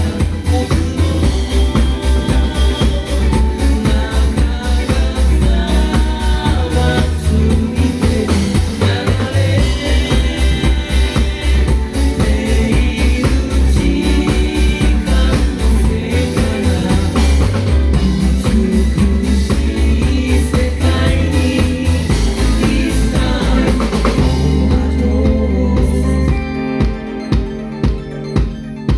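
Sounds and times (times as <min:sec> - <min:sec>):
drum kit and bass beat: 0:00.0 - 0:28.9
live band playing: 0:00.0 - 0:28.9.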